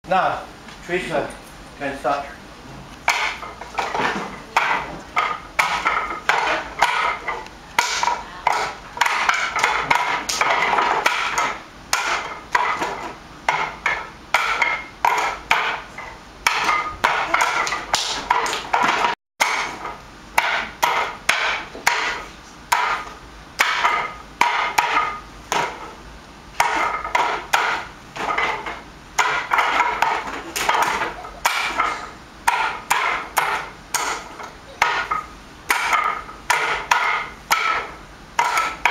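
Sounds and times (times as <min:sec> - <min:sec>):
wooden dummy knocks and clacks: 0:03.0 - 0:25.9, 0:26.6 - 0:38.9.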